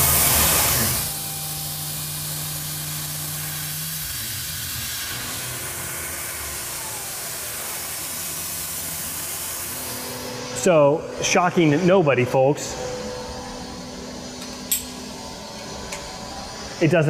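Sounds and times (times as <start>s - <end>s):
mill spindle cutting: 0.0s - 17.0s.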